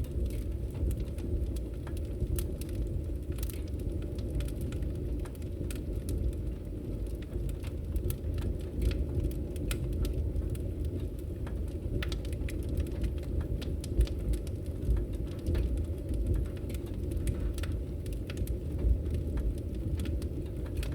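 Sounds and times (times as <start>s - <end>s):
fire rumbling: 0.0s - 20.9s
wood crackling and popping: 0.0s - 20.9s.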